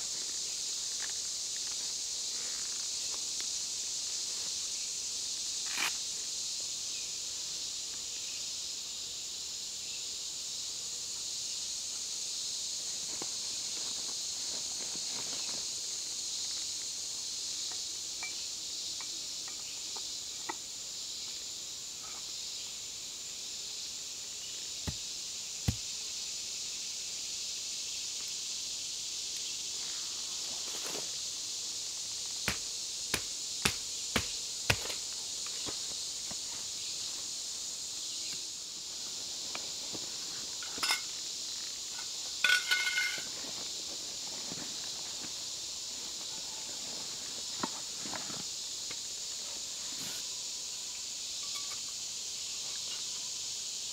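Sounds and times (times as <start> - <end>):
insect chorus: 0.0 - 53.9.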